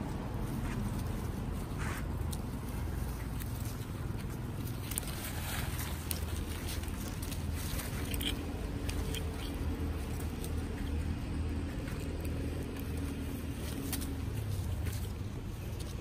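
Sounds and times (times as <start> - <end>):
rustling dry leaves: 0.0 - 16.0.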